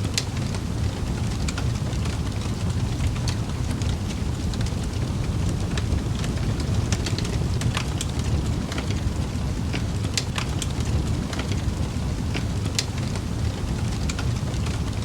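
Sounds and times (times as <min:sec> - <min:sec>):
burning wood crackling and popping: 0:00.0 - 0:15.0
campfire burning: 0:00.0 - 0:15.0.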